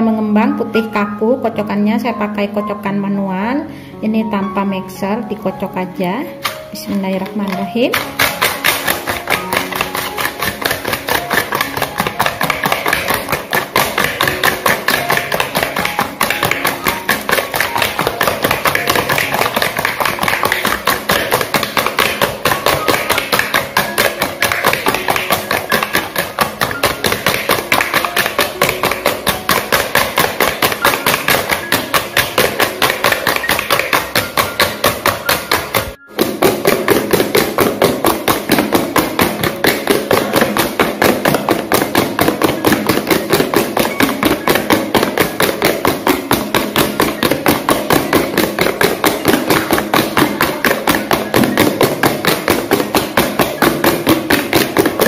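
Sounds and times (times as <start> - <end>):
whisk clicking against plastic bowl: 7.2 - 55.0.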